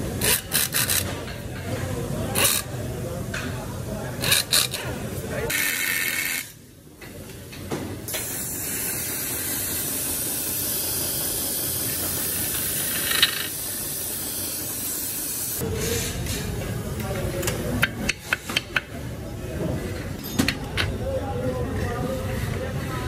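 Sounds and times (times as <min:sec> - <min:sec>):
hissing factory machine noise: 0:00.0 - 0:23.0.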